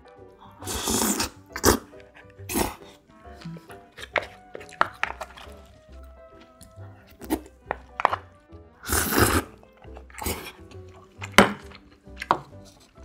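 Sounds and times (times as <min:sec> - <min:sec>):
slurping: 0:00.0 - 0:13.0
soft background music: 0:00.0 - 0:13.0.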